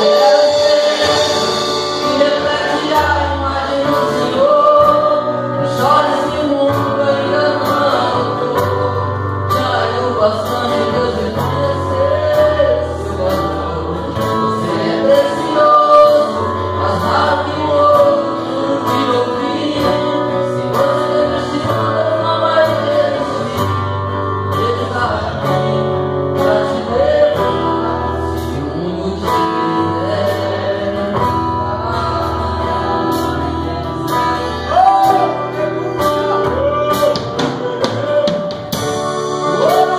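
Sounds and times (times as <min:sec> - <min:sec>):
drum kit beat: 0:00.0 - 0:28.7, 0:32.9 - 0:39.9
acoustic guitar: 0:00.0 - 0:39.9
keyboard: 0:00.0 - 0:39.9
man singing into a microphone: 0:00.0 - 0:39.9.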